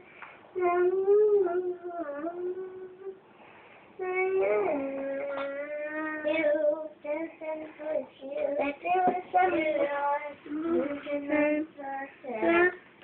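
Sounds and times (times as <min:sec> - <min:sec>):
child singing: 0:00.6 - 0:03.2, 0:04.0 - 0:12.9.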